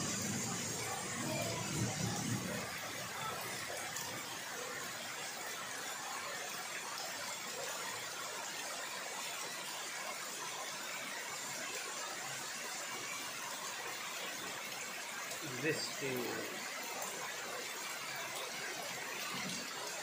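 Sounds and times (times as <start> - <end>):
heavy rain on leaves: 0.0 - 20.0.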